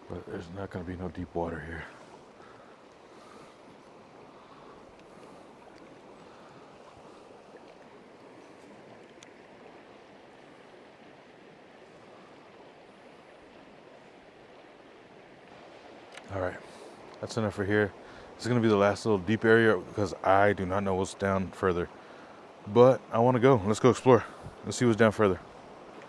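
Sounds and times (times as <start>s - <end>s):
creek babbling: 0.0s - 26.0s.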